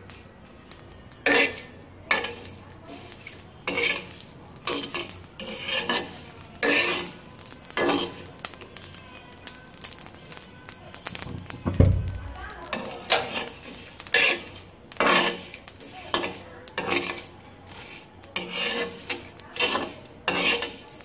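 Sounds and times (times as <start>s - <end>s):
spoon scraping spices on griddle: 0.0s - 21.0s.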